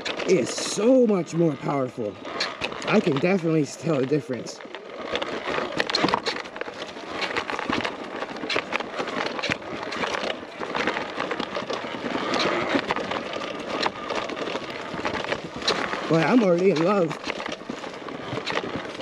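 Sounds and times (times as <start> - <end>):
dirt bike riding over rough ground: 0.0 - 19.0.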